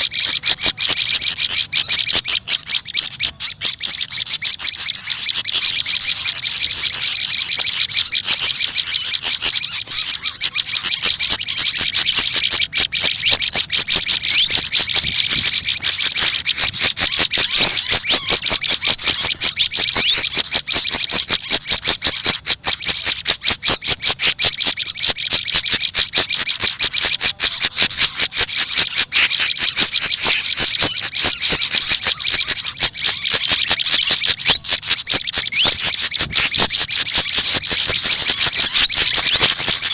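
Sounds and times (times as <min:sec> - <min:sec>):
songbird chirping rapidly: 0:00.0 - 0:39.9.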